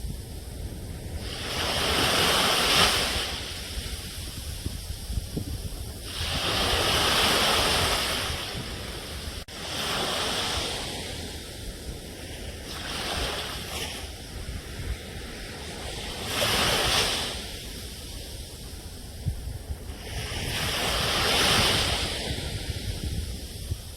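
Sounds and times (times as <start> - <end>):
ocean waves breaking on shore: 0.0 - 23.9
wind rumble on microphone: 0.0 - 23.9.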